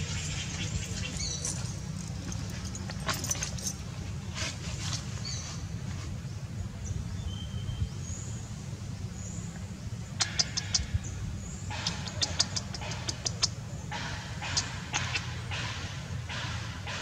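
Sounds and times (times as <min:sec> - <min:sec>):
small birds chirping: 0:00.0 - 0:16.6.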